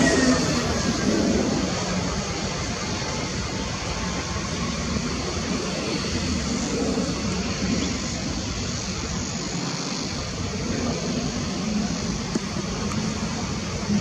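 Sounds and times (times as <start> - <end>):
jet engine rushing: 0.0 - 14.0.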